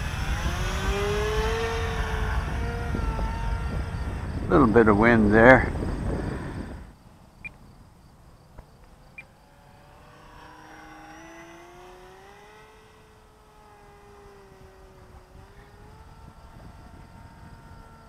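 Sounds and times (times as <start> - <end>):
model plane motor whine: 0.0 - 7.7, 8.3 - 18.0
wind rumble on microphone: 0.0 - 18.0.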